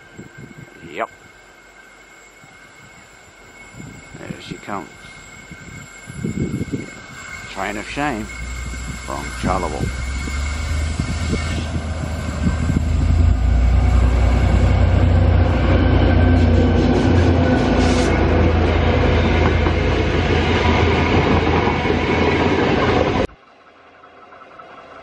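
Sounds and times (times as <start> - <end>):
diesel locomotive engine rumble: 0.0 - 25.0
train wheels rushing on rails: 0.0 - 25.0.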